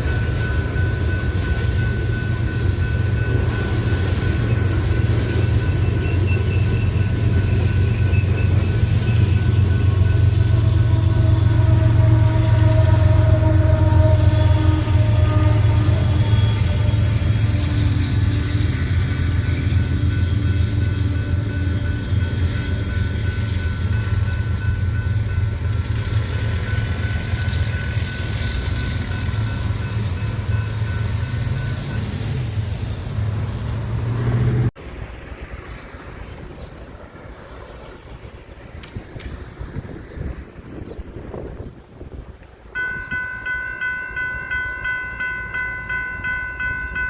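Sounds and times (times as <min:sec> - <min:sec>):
train passing: 0:00.0 - 0:47.0.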